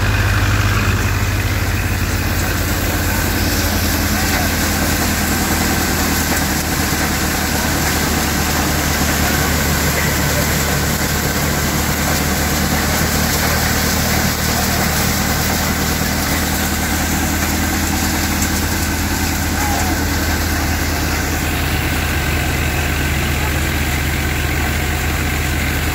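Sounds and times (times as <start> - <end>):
combine harvester engine drone: 0.0 - 25.9.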